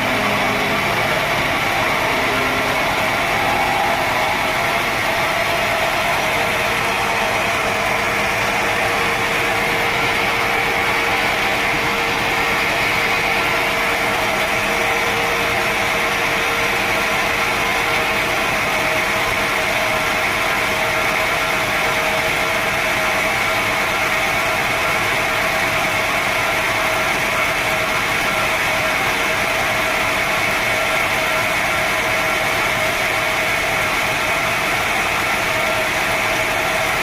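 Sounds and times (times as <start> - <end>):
mechanical hum: 0.0 - 37.0
sawmill saw whine: 0.0 - 37.0.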